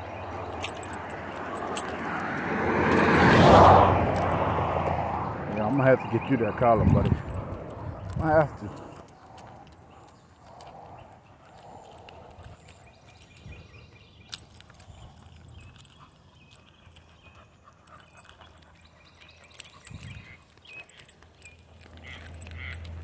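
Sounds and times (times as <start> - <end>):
dog collar jingling: 0.0 - 23.0
footsteps on paved road: 0.0 - 23.0.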